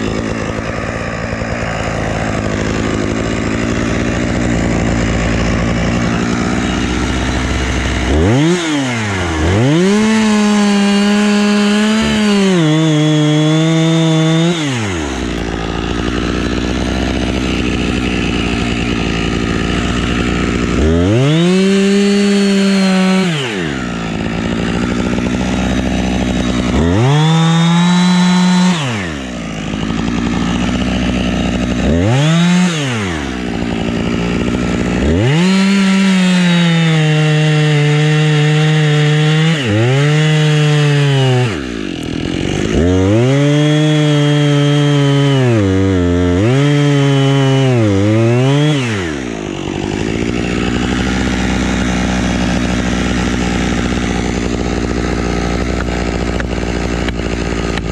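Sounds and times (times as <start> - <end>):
chainsaw cutting wood: 0.0 - 57.9
chainsaw idling and revving: 0.0 - 57.9.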